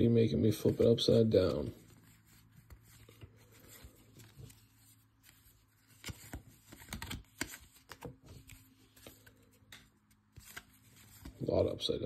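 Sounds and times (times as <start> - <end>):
cards being flipped through: 0.6 - 11.5.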